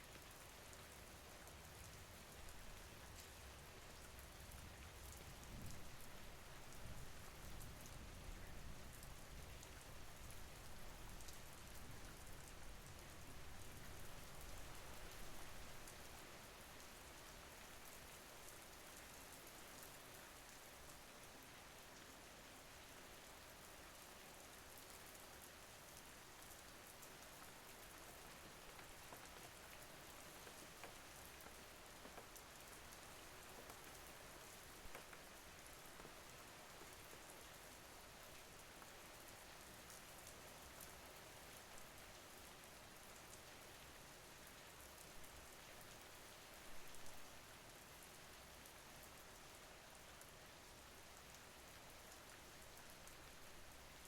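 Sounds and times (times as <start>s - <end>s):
soft steady rain: 0.0s - 54.0s.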